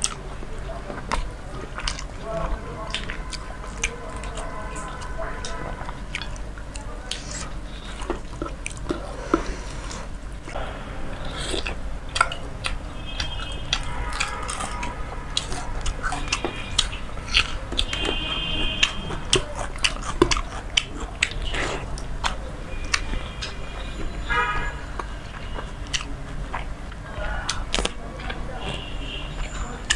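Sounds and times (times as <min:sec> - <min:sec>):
sharp mouth clicks: 0:00.0 - 0:00.3, 0:02.8 - 0:24.0, 0:24.8 - 0:28.4
wet chewing and lip-smacking: 0:00.0 - 0:29.9.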